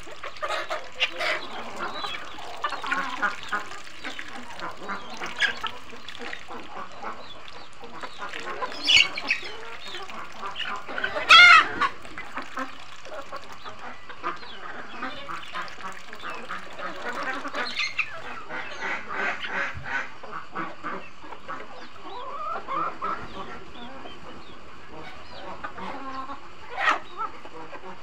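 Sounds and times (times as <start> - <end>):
chickens clucking: 0.0 - 28.0
ducks quacking: 0.0 - 28.0.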